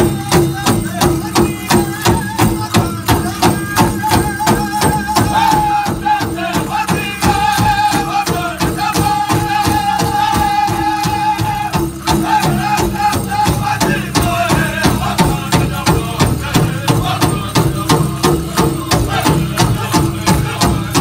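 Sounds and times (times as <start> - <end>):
group singing: 0.0 - 21.0
steady drumbeat: 0.0 - 21.0.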